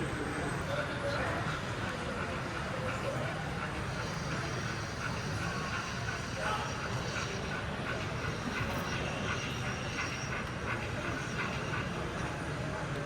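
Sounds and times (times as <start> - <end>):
crowd chatter: 0.0 - 13.0
model train rumbling: 0.0 - 13.0.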